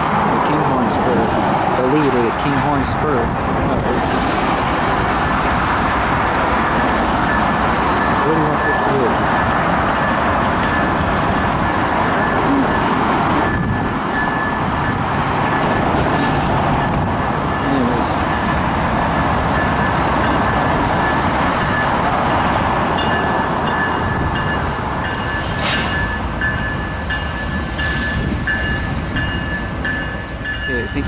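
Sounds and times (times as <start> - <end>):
diesel locomotive rumbling: 0.0 - 31.0.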